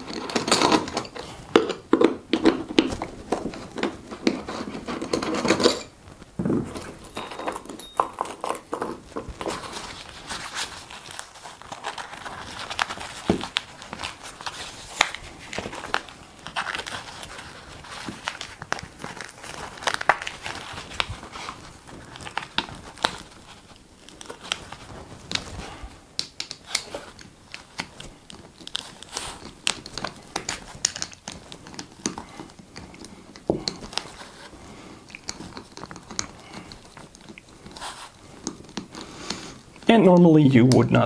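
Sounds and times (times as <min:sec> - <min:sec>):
strap rustling: 0:02.4 - 0:40.3.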